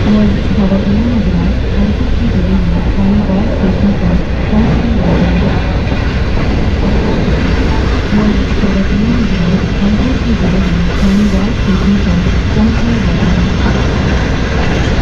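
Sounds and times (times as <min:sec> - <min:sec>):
woman's announcement over speakers: 0:00.0 - 0:05.9, 0:06.8 - 0:13.9
moving train rumble: 0:00.0 - 0:15.0.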